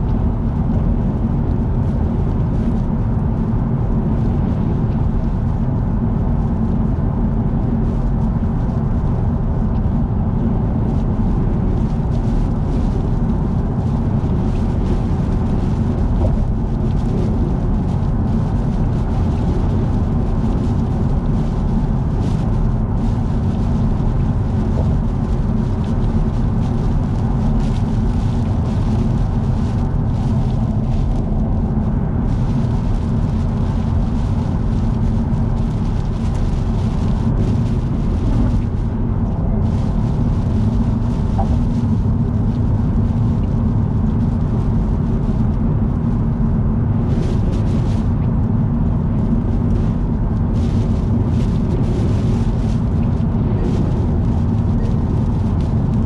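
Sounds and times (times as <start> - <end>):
car tyre and road noise: 0.0 - 56.0.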